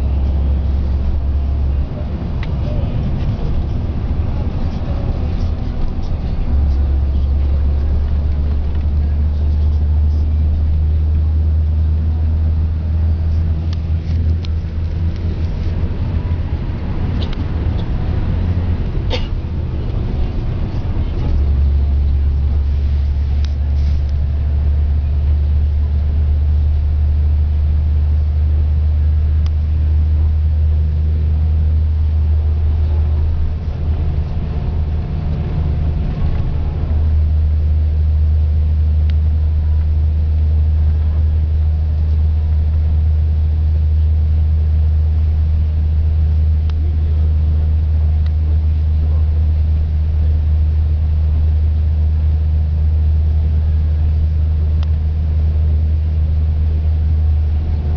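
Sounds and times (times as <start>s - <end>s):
coach engine and road drone: 0.0s - 57.9s.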